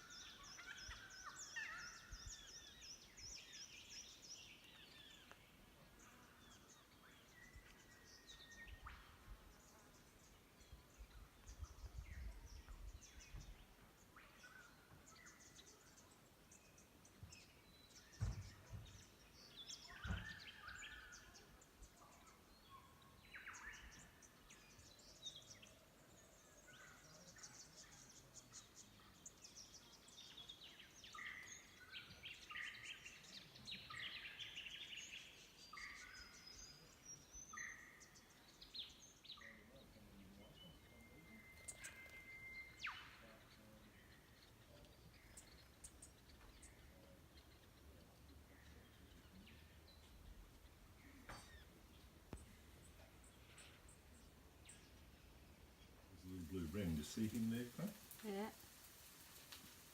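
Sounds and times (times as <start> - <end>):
birds chirping and calling: 0.0 - 16.2, 16.8 - 25.7, 26.6 - 58.8.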